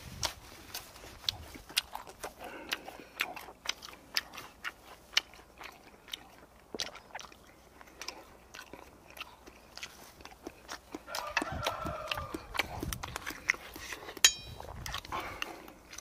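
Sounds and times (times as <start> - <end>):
person chewing food: 0.0 - 16.0
wet mouth clicks and smacks: 0.2 - 16.0.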